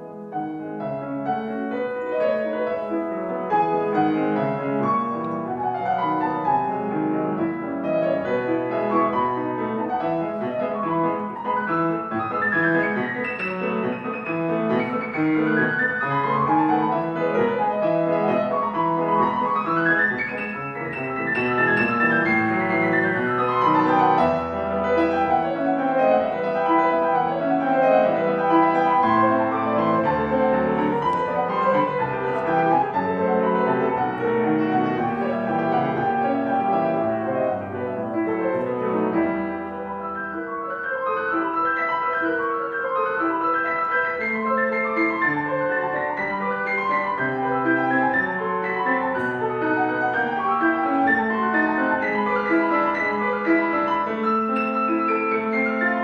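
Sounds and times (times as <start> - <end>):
classical piano piece: 0.0 - 56.0.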